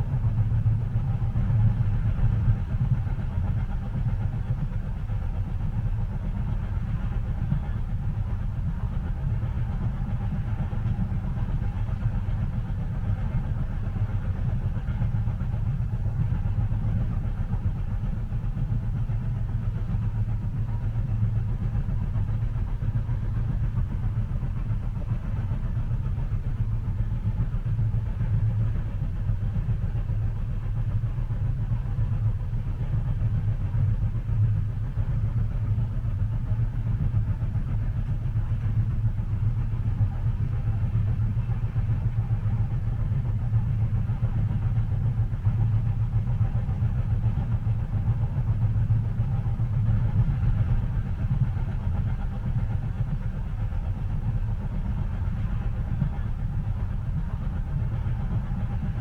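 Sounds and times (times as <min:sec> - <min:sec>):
moving train rumble inside cabin: 0:00.0 - 0:59.0.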